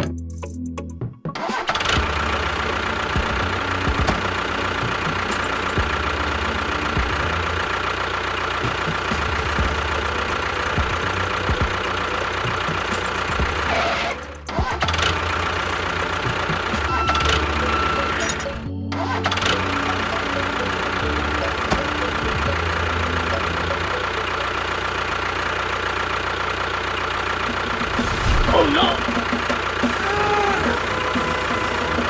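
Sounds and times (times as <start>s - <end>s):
small engine running: 1.4s - 32.0s.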